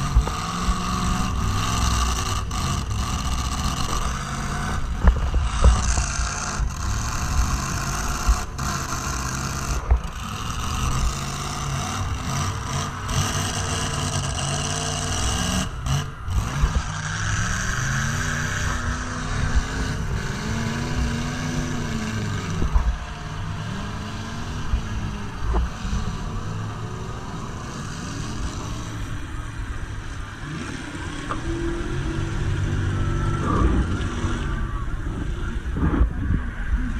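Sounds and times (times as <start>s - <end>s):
car engine revving hard: 0.0s - 36.1s.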